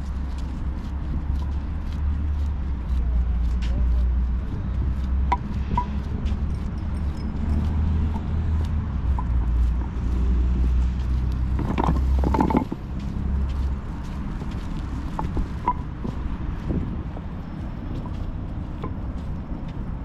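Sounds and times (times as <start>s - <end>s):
street rumble: 0.0s - 20.0s.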